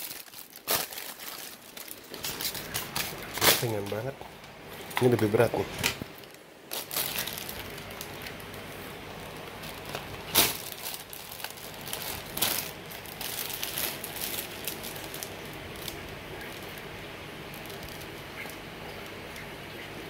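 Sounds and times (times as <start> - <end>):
plastic bag crinkling: 0.0 - 19.5.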